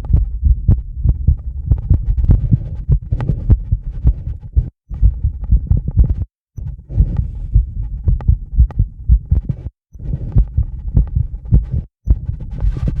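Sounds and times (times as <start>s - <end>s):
fast heartbeat: 0.0s - 13.0s.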